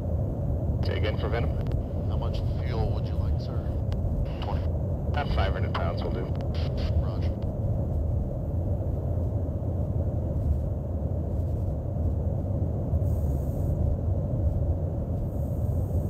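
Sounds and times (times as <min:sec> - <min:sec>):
aircraft engine low rumble: 0:00.0 - 0:16.0.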